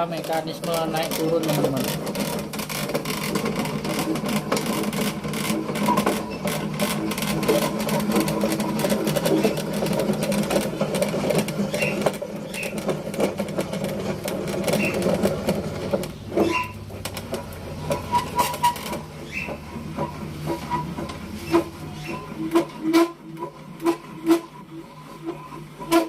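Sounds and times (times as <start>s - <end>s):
wooden knocks: 0.0s - 24.5s.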